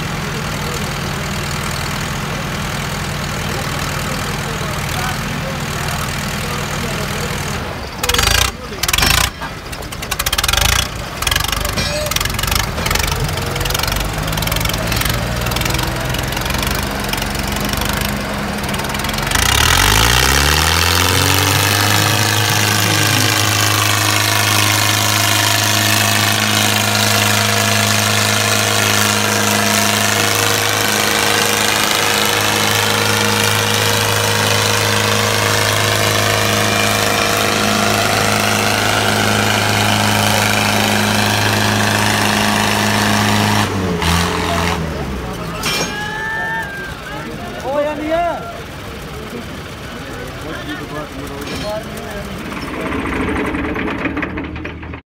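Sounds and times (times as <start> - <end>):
tractor diesel engines straining: 0.0 - 55.0.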